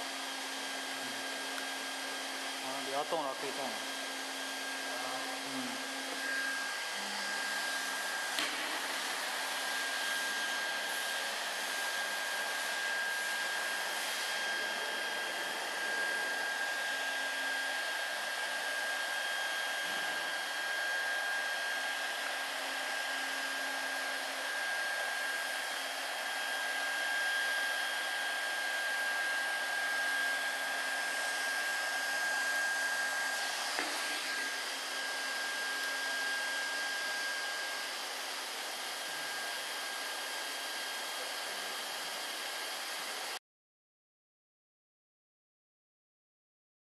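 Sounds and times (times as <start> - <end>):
hot-air blower hissing: 0.0 - 43.4.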